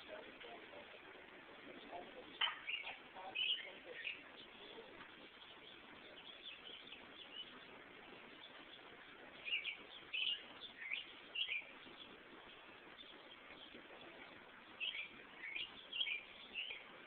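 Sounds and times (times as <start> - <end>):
birds chirping: 0.0 - 17.0
faint steady hiss: 0.0 - 17.0.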